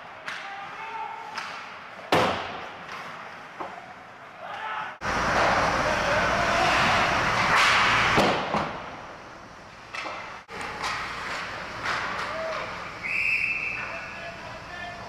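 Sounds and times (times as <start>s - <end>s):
ice hockey rink noise: 0.0s - 15.0s.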